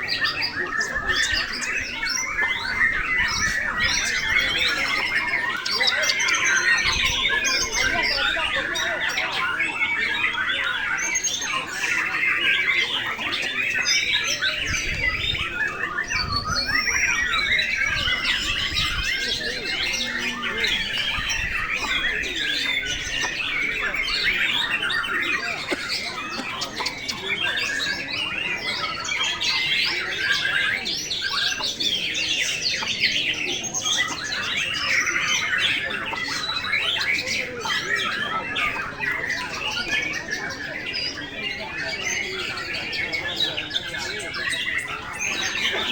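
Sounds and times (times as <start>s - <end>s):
chorus of songbirds singing: 0.0s - 45.9s.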